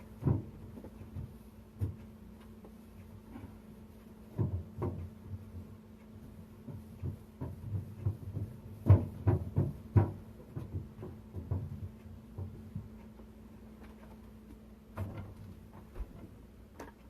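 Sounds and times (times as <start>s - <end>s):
refrigerator hum: 0.0s - 17.0s
soft thumps and knocks: 0.0s - 17.0s.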